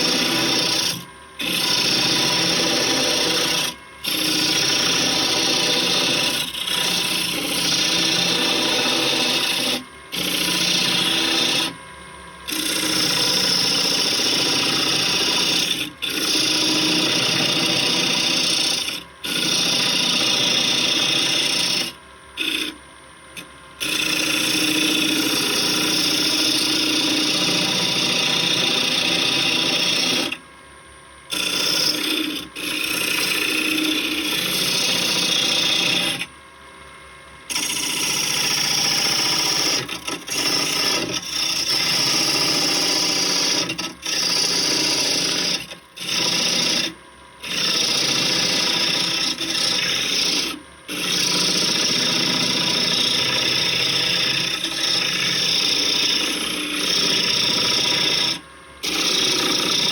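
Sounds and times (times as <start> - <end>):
lathe tool scraping wood: 0.0 - 30.4, 31.3 - 36.3, 37.5 - 59.9.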